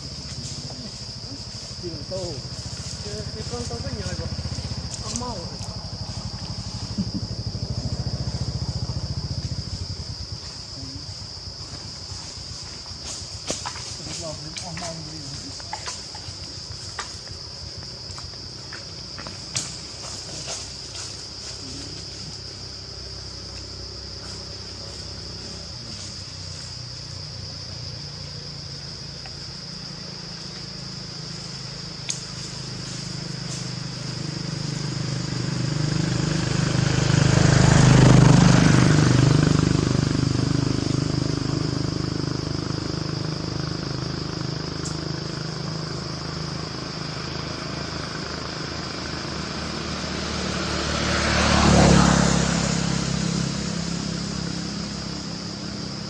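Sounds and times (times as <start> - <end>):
vehicle engine passing: 0.0 - 13.2, 19.0 - 56.0
high-pitched insect drone: 0.0 - 56.0.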